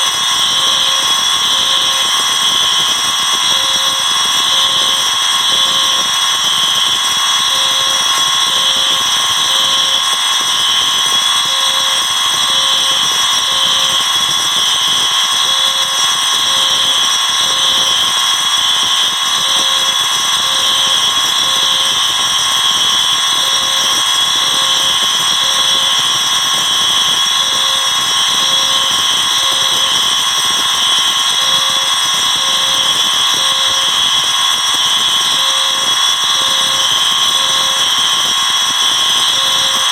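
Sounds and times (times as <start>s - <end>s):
fire alarms sounding: 0.0s - 39.9s.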